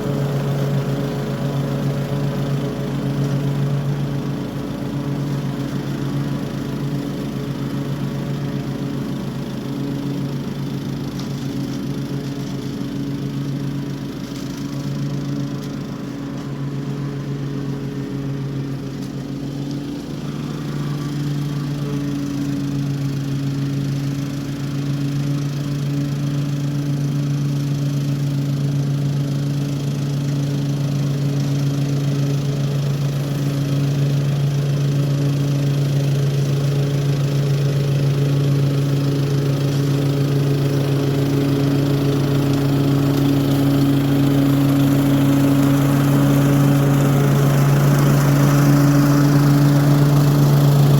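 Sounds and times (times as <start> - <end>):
lawn mower running: 0.0 - 50.9.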